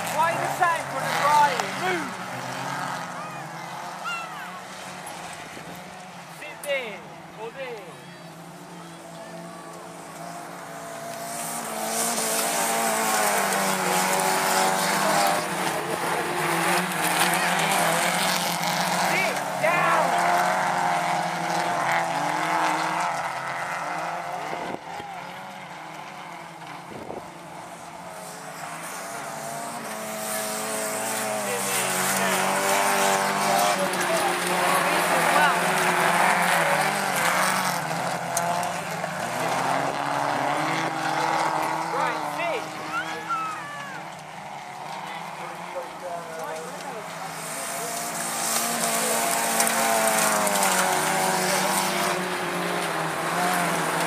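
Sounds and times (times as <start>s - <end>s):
racing car engines accelerating: 0.0s - 54.0s.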